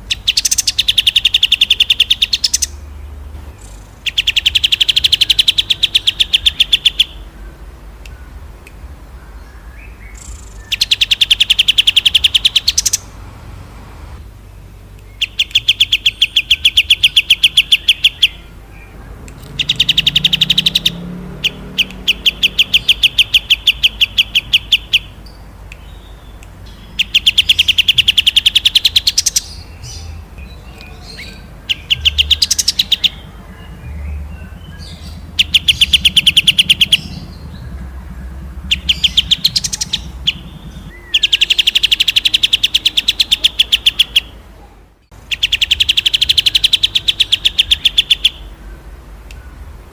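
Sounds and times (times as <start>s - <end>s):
songbird rattling trills: 0.0s - 13.3s, 14.4s - 44.4s.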